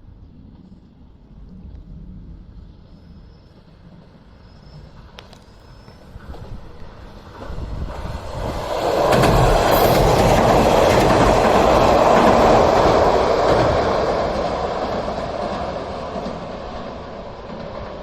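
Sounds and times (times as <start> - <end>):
train passing: 0.4 - 18.0.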